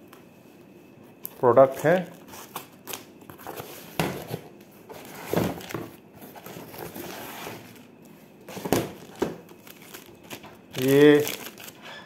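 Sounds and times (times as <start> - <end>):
packaging scraping and rustling: 1.6 - 12.0.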